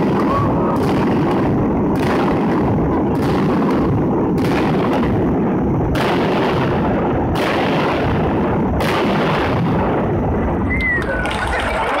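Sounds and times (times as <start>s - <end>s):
fireworks bangs echoing: 0.0s - 12.0s
steady crowd din: 0.0s - 12.0s.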